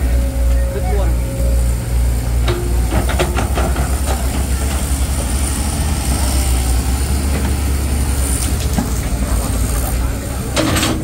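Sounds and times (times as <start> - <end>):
heavy engine rumbling at low revs: 0.0 - 11.0.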